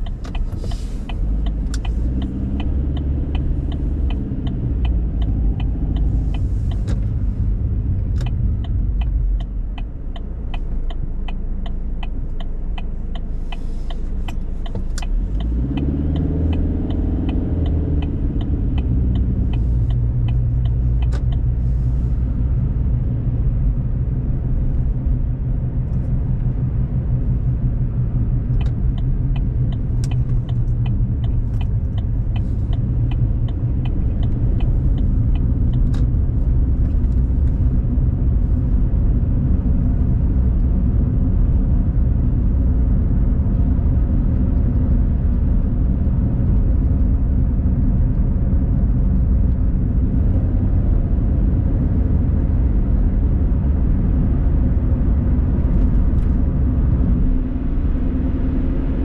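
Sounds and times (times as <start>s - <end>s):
car engine and road rumble: 0.0s - 59.0s
turn signal ticking: 0.0s - 59.0s.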